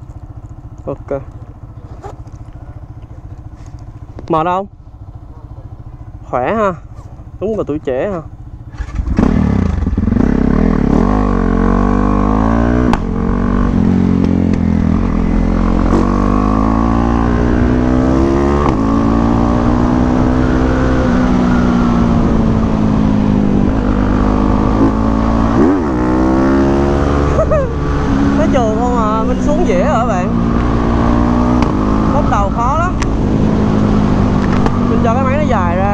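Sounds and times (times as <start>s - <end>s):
dirt bike engine revving: 5.0s - 35.9s.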